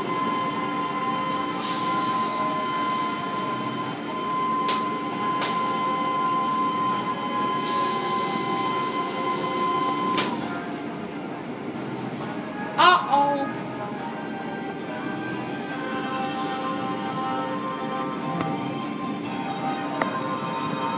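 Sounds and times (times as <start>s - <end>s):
car-wash machinery whine: 0.0s - 12.8s, 13.5s - 20.9s.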